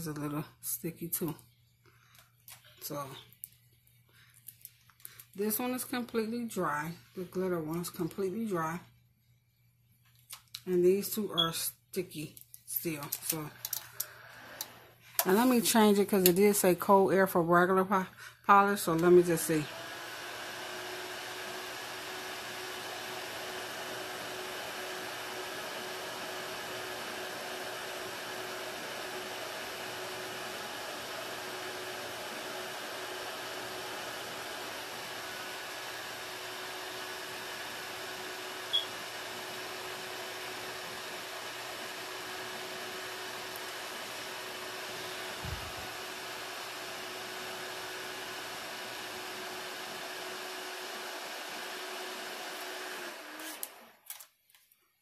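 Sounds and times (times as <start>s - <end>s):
nail fan dryer whirring: 3.9s - 8.8s, 12.8s - 54.1s.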